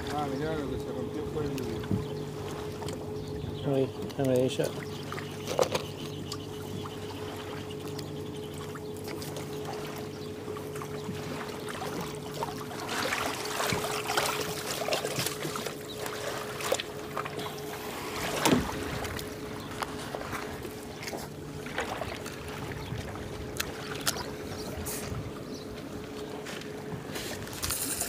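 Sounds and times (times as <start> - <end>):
low mechanical hum: 0.0 - 28.0
splashing in shallow water: 0.0 - 28.0.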